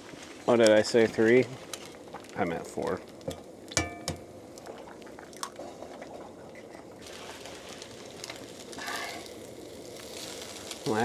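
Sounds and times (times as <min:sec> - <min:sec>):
eggs sizzling in a skillet: 0:00.4 - 0:11.0.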